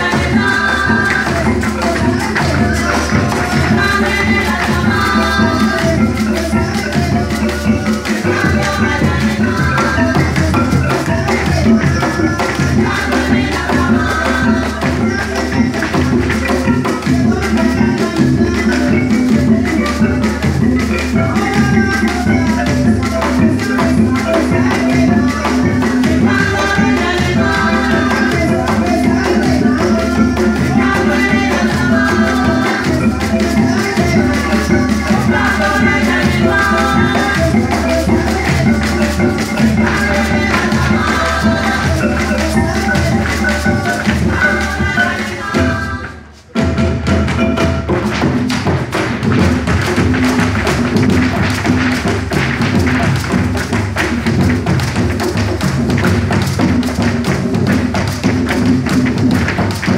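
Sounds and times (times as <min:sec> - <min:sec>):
hand drums fast beat: 0:00.0 - 0:59.9
maraca-like shaking: 0:00.0 - 0:59.9.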